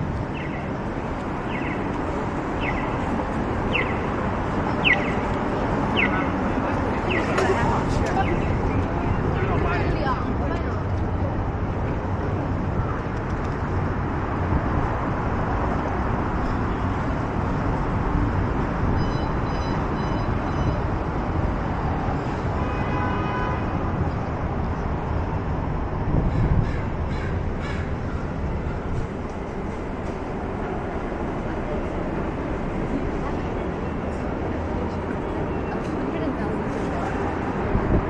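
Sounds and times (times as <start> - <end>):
traffic hum: 0.0 - 38.0.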